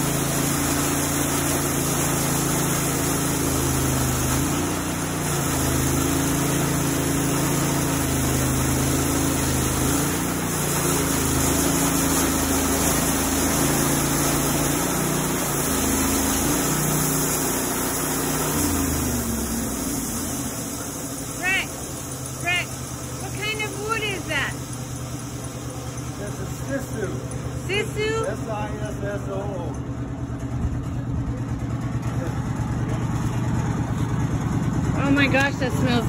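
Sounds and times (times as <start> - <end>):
band sawmill engine hum: 0.0 - 36.0.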